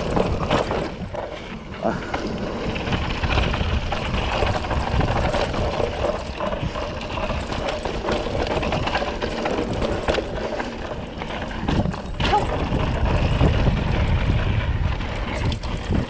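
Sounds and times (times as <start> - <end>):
bike rattling and clicking: 0.0 - 16.0
tyres rumbling on dirt: 0.0 - 16.0
wind on microphone: 1.9 - 10.0, 10.9 - 16.0.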